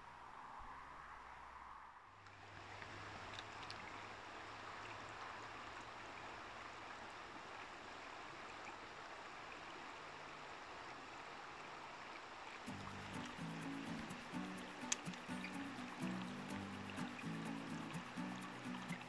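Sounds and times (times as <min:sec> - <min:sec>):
river water rushing over stones: 0:02.4 - 0:19.0.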